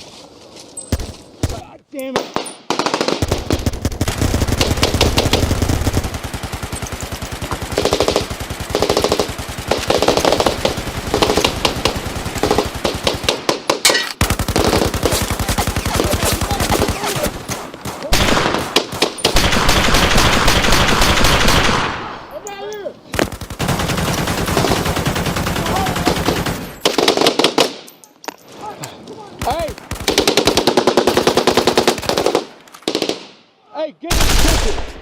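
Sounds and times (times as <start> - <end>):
automatic gunfire bursts: 2.2 - 22.2, 23.2 - 27.8, 29.5 - 33.3.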